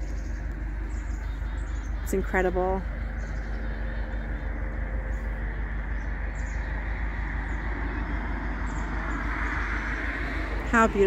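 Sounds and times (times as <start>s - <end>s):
road traffic rumble: 0.0s - 11.0s
vehicle passing by: 0.0s - 11.0s.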